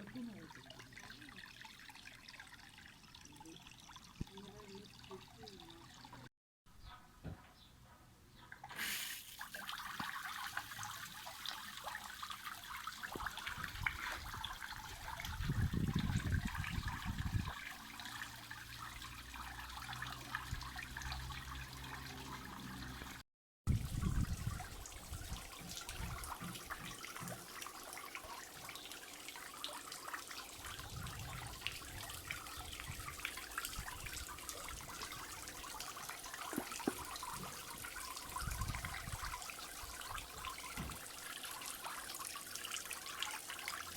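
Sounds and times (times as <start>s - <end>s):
pond waterfall trickling: 0.0s - 6.3s, 8.6s - 43.9s.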